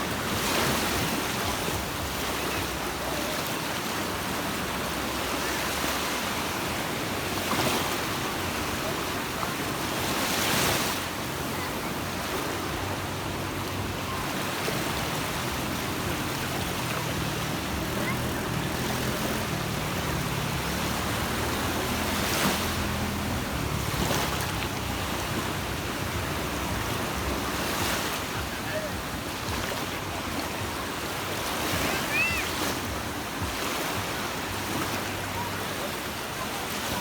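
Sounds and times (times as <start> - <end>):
waves breaking on beach: 0.0 - 37.0.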